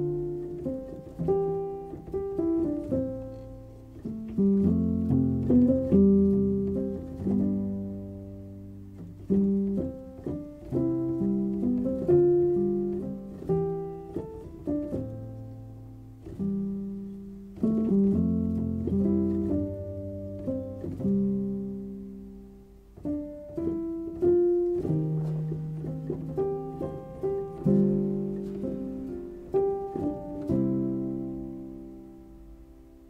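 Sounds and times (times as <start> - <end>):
gentle solo piano: 0.0 - 33.0.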